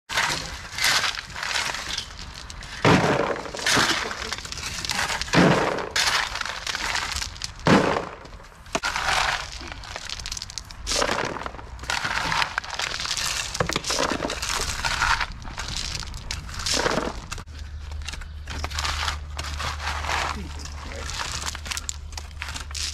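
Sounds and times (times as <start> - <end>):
shovels scraping gravel: 0.1 - 22.9
stones clattering and crunching: 0.1 - 22.9.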